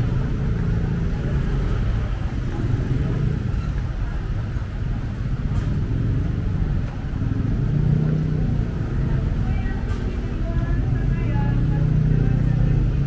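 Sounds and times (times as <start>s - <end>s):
engine passing close: 0.0s - 13.0s
street traffic passing: 0.0s - 13.0s.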